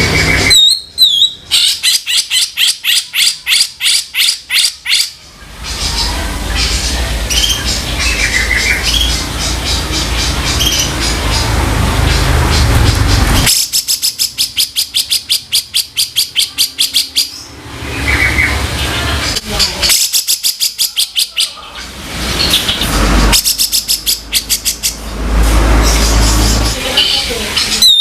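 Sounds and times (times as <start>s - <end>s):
bird harsh rattling calls: 0.0s - 28.0s.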